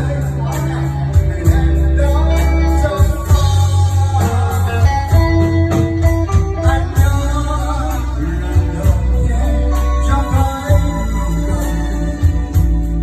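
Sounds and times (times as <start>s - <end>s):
live band with guitar and bass: 0.0s - 13.0s
man singing into microphone: 0.0s - 13.0s.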